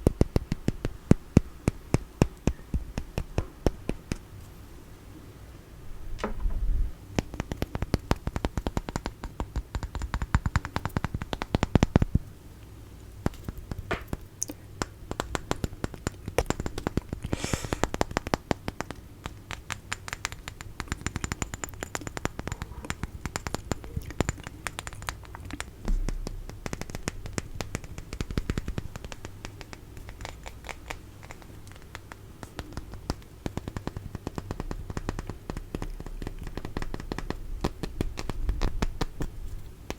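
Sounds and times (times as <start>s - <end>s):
tapping and scratching on objects: 0.0s - 4.6s, 7.1s - 39.9s.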